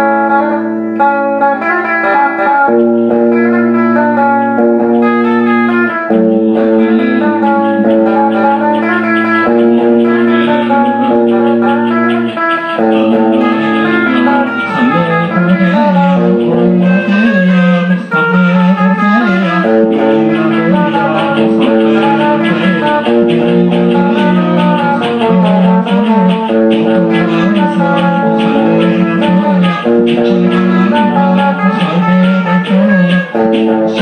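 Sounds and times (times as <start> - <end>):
held low notes and chords: 0.0 - 34.0
plucked guitar notes: 0.0 - 34.0.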